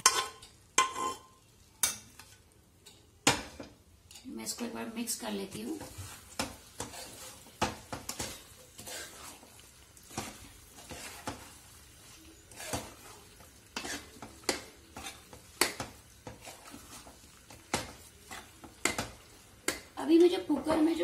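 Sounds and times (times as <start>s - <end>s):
metal spoon scraping metal pan: 0.0s - 3.0s, 5.6s - 19.9s
faint sizzle: 0.0s - 21.0s.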